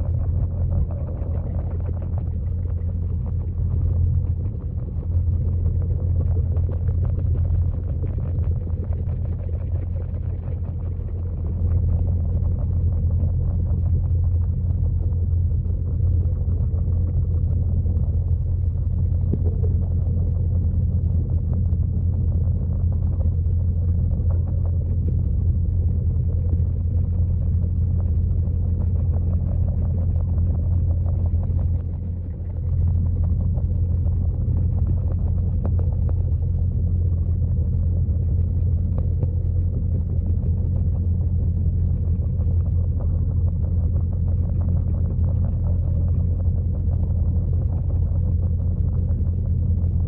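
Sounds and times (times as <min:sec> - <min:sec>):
faint steady hum: 0:00.0 - 0:50.0
muffled underwater waterfall rumble: 0:00.0 - 0:50.0.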